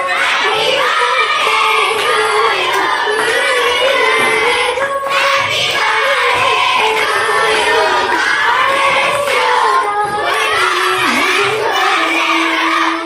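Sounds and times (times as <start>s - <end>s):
children singing in chorus: 0.0s - 13.0s.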